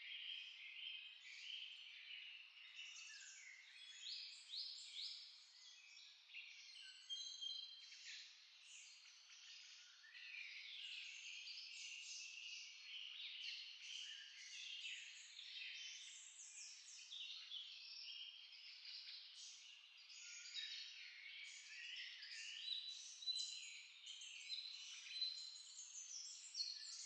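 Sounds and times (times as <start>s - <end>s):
chorus of birds chirping: 0.0s - 27.0s.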